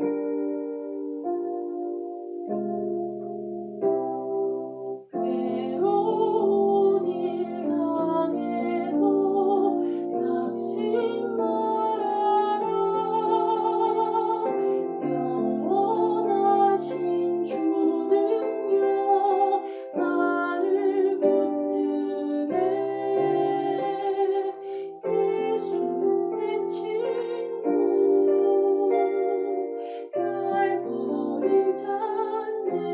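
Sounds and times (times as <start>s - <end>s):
piano accompaniment: 0.0s - 32.9s
woman singing a slow hymn: 5.2s - 32.9s.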